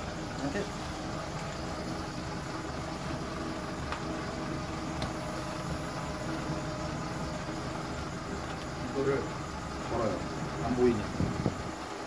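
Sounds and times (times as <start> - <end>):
machinery whirring hum: 0.0 - 12.0.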